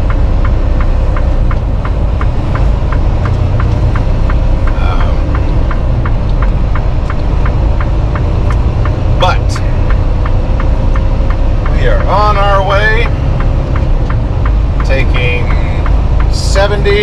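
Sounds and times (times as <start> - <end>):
truck engine and road rumble: 0.0 - 17.0
turn signal ticking: 0.0 - 17.0.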